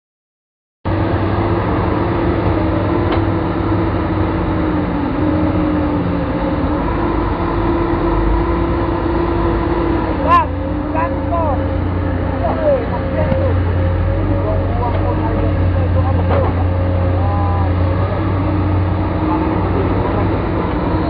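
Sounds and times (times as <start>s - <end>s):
diesel engine droning: 0.9s - 21.0s.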